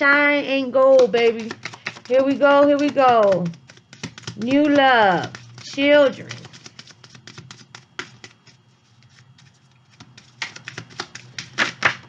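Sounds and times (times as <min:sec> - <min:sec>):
cards clicking and tapping: 0:00.7 - 0:12.0.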